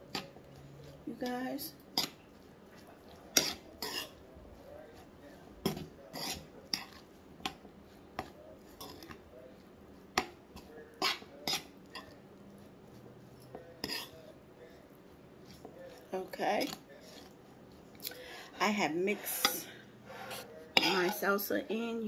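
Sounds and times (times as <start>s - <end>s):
metal spoon scraping a skillet: 0.0s - 9.3s, 10.0s - 21.8s.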